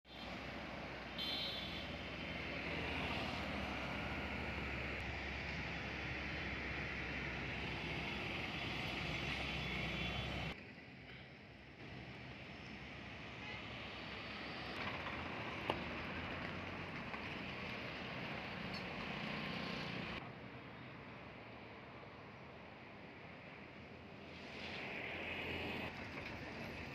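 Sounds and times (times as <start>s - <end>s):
traffic passing: 0.1s - 26.9s.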